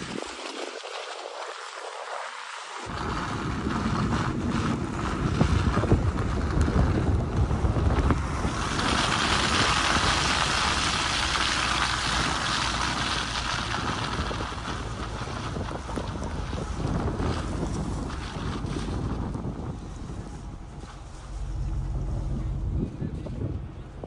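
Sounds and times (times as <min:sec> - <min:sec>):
blizzard wind buffeting microphone: 0:00.0 - 0:24.0.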